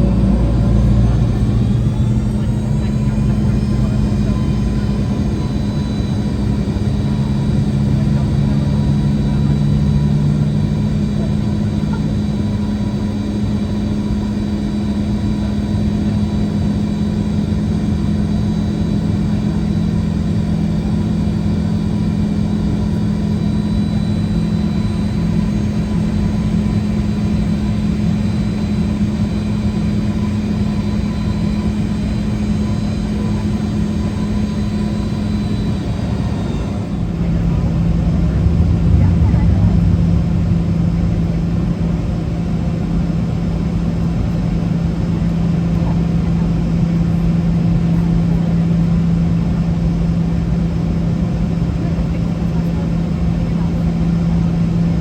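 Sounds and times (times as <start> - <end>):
jet engines idling hum: 0.0 - 55.0.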